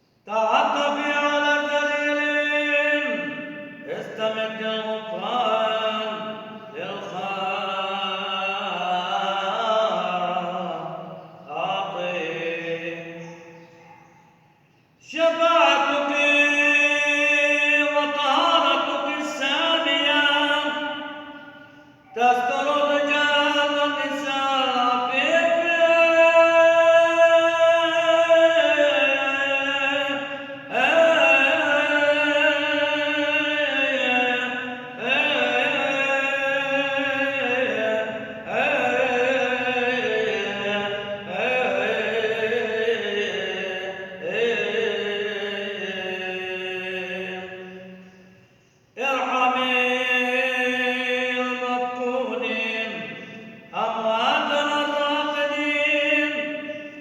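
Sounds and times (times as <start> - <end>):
solo voice chanting: 0.0 - 57.0.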